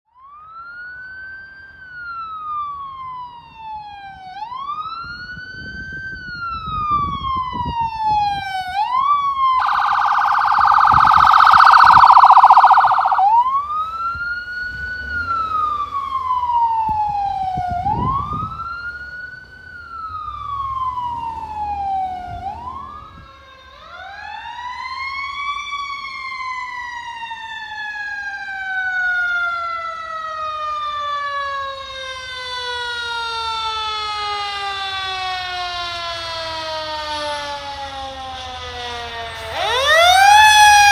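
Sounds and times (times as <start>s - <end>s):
emergency vehicle siren wailing: 0.3s - 40.9s.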